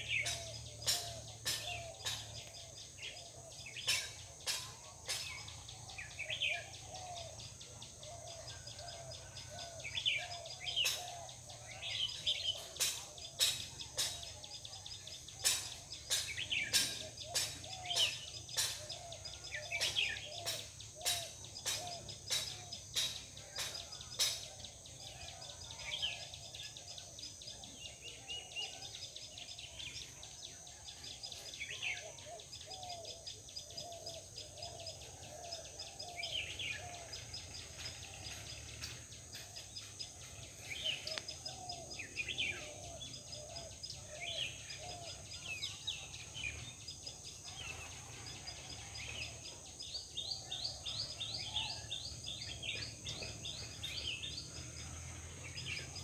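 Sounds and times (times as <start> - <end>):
birds calling: 0.0 - 56.0.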